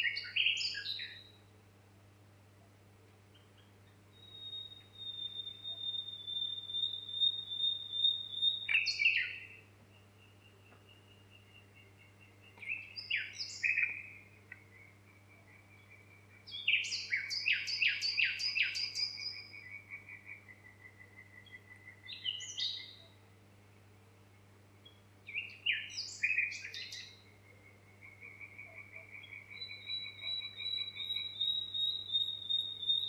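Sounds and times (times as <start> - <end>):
faint low hum: 0.0 - 33.0
bird trill: 3.3 - 23.2, 24.8 - 33.0.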